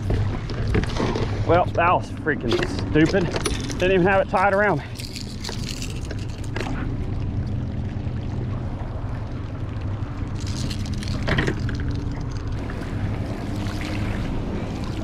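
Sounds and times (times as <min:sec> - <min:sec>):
outboard motor idling: 0:00.0 - 0:15.0
water splashing and trickling: 0:02.4 - 0:15.0.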